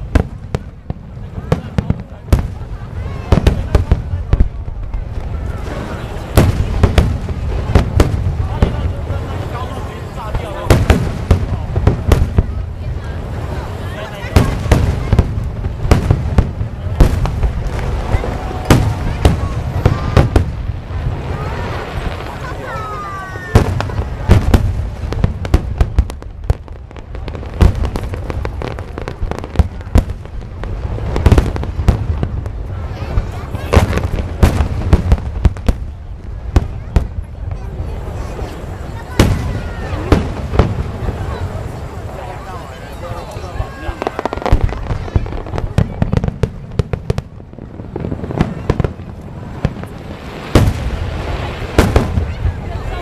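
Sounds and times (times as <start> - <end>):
fireworks bangs and cracks: 0.0 - 53.0
heavy fireworks booms: 0.0 - 53.0.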